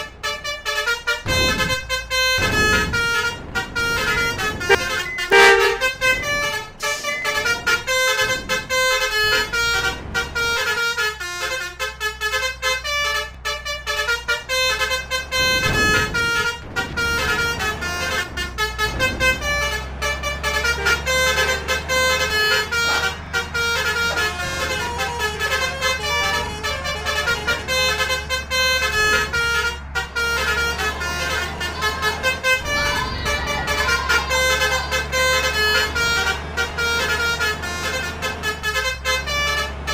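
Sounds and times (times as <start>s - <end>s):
bus engine low hum: 0.0s - 39.9s
multi-tone air horns: 0.0s - 39.9s.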